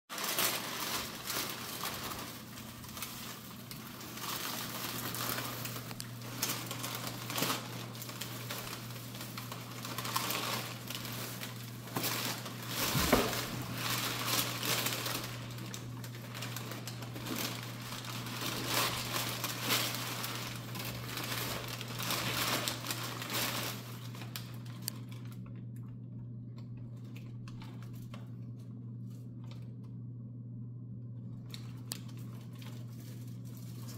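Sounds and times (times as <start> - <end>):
paper crinkling and rustling: 0.1 - 25.8, 26.6 - 29.9, 31.4 - 33.9
low steady hum: 0.2 - 33.9.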